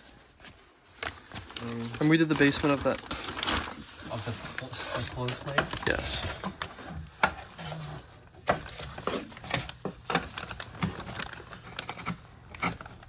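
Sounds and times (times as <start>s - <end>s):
plastic rustling: 0.0s - 13.0s.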